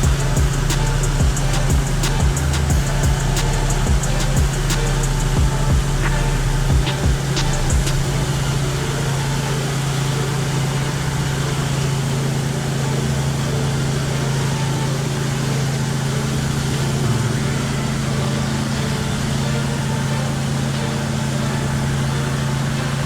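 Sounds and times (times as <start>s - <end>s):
pressure washer engine running: 0.0s - 23.0s.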